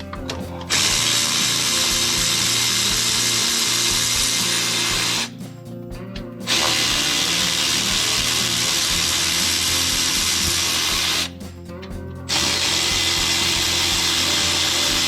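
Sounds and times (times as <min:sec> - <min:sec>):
power tool whirring: 0:00.7 - 0:05.4, 0:06.5 - 0:11.4, 0:12.3 - 0:15.0.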